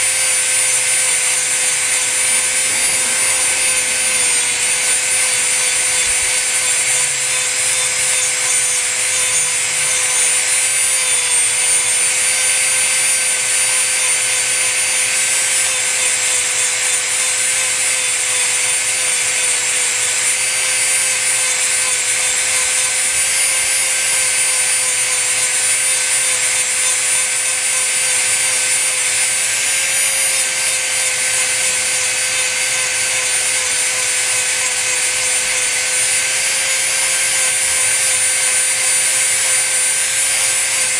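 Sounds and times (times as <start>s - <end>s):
rotary tool grinding paint: 0.0s - 40.9s.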